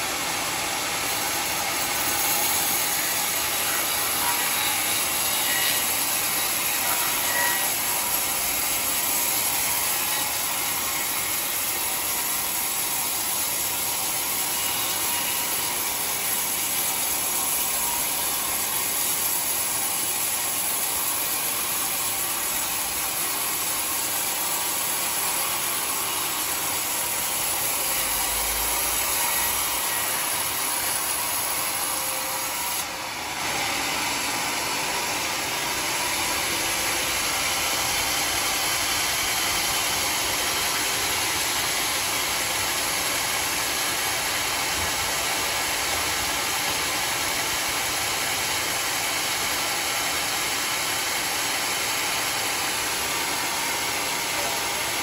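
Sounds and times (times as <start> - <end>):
sawmill blade cutting log: 0.0 - 55.0.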